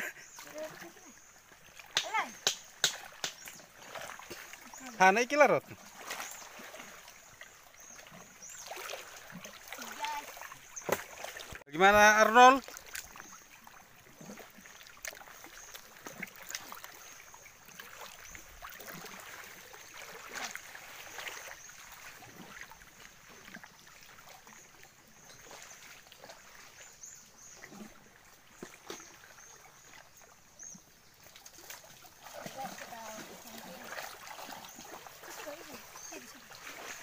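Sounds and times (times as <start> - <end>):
water sloshing around wading legs: 0.0 - 37.0
small splashes and drips: 0.2 - 37.0.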